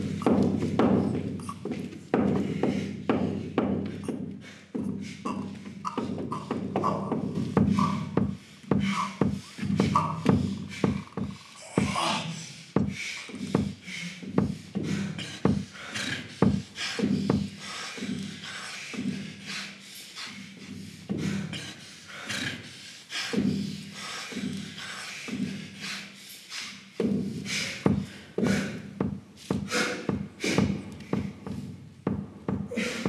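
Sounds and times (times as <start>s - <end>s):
person breathing and mouth sounds: 0.0s - 33.0s.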